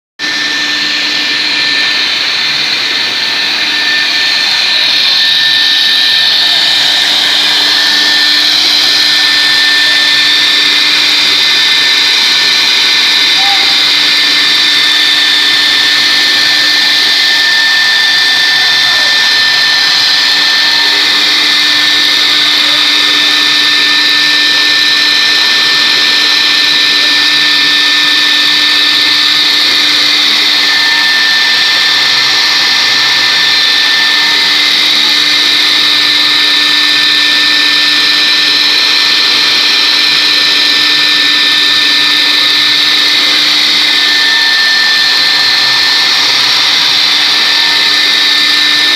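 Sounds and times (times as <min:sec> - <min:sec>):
hissing cutting of foam: 0:00.2 - 0:48.9
router spindle whine: 0:00.2 - 0:48.9.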